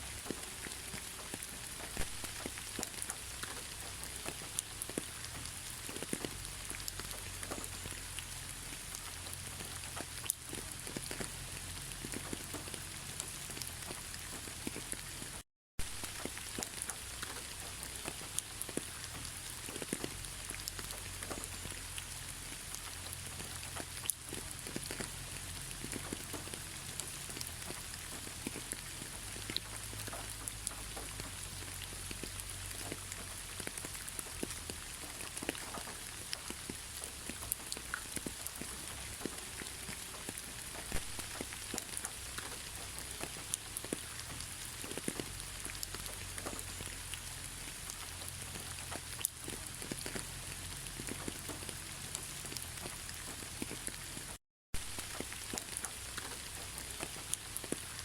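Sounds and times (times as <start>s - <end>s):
rain falling: 0.0s - 58.0s
raindrops ticking on a surface: 0.0s - 58.0s.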